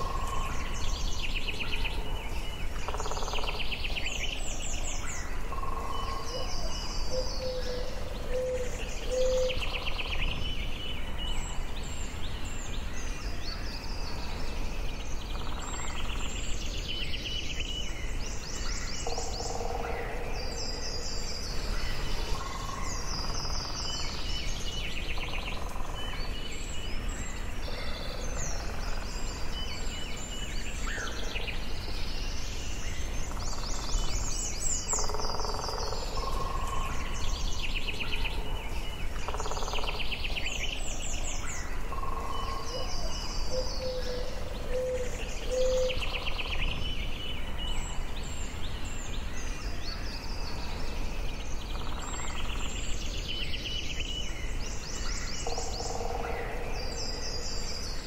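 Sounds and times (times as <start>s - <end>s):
birds chirping and trilling: 0.0s - 58.0s
low background noise: 0.0s - 58.0s.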